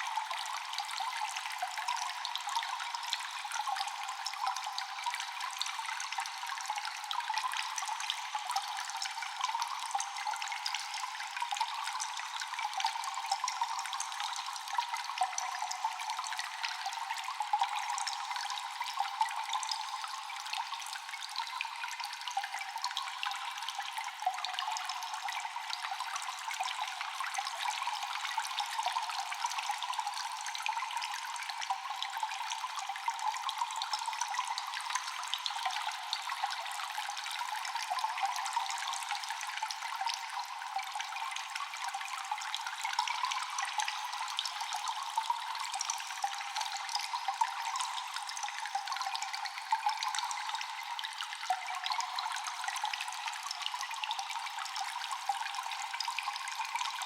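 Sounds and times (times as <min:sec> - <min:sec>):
trickling water: 0:00.0 - 0:57.0.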